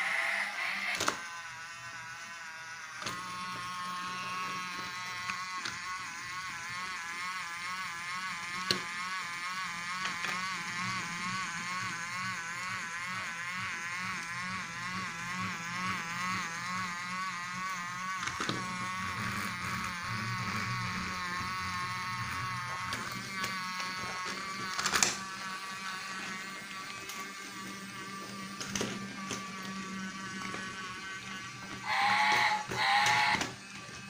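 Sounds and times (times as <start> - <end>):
toy vehicle electronic whirring: 0.0 - 34.0.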